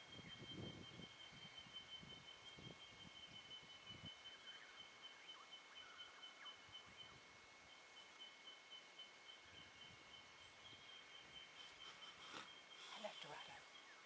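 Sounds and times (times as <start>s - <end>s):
faint chirps: 0.0s - 14.0s.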